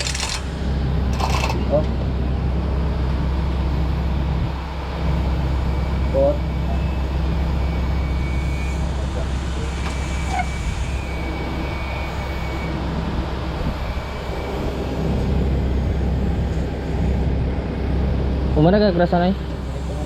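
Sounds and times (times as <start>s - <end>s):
engine running at low speed: 0.0s - 20.0s.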